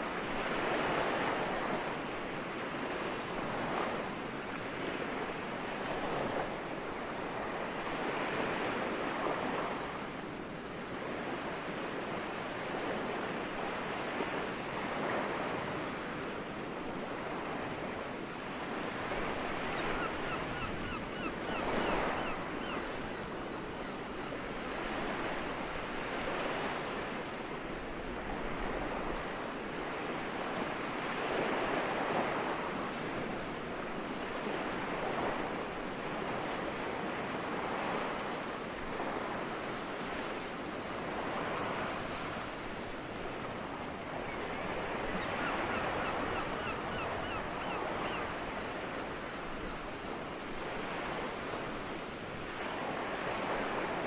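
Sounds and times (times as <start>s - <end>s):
soft sea waves on shore: 0.0s - 54.0s.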